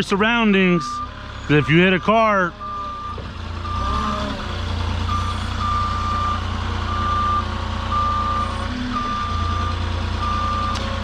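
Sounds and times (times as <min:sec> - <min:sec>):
forklift engine drone: 0:00.0 - 0:11.0
reversing alarm beeping: 0:00.8 - 0:04.2, 0:05.0 - 0:10.8.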